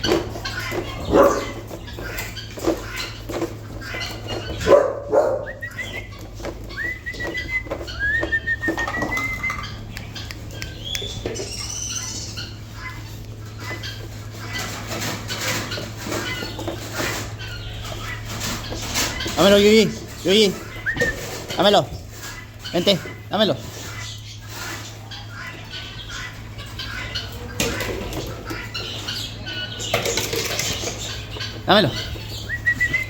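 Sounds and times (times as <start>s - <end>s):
animals scuffling: 0.0s - 33.0s.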